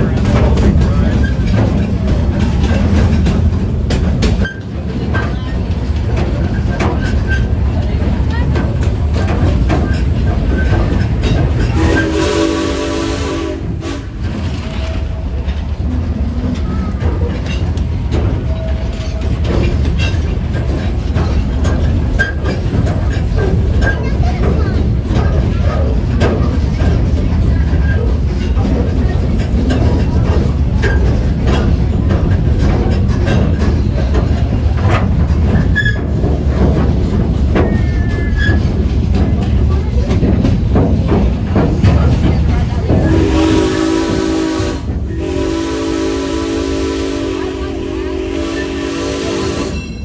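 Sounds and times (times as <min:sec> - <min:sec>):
train wheel clicks: 0:00.0 - 0:45.4
steam train rumbling: 0:00.0 - 0:50.0.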